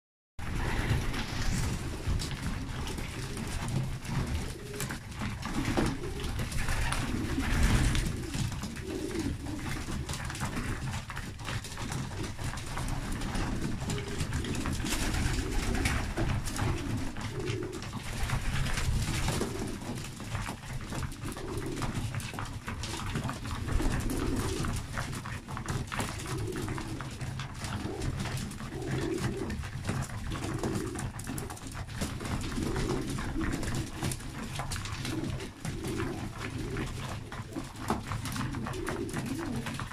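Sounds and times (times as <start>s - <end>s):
pigeons cooing: 0.4s - 39.9s.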